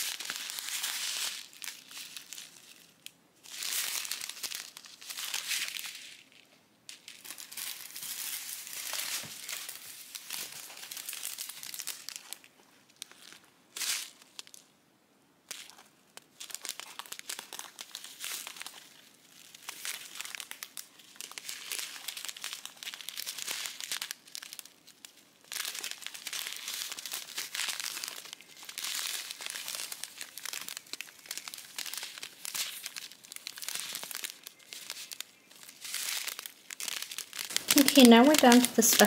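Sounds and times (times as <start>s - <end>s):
plastic bags crinkling: 0.0s - 14.6s, 15.5s - 39.0s.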